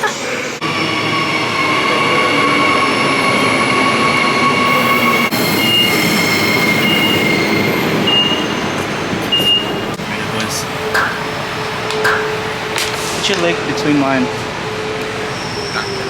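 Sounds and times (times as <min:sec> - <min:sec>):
train running with whining tones: 0:00.0 - 0:16.0.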